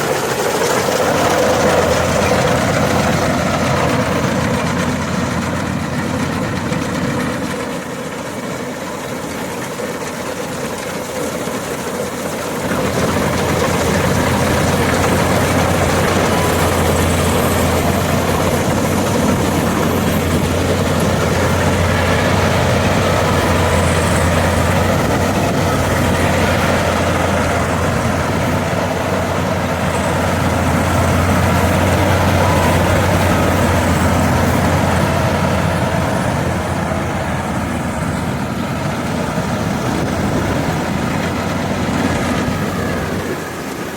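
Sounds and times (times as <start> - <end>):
combine harvester engine humming: 0.0 - 43.9.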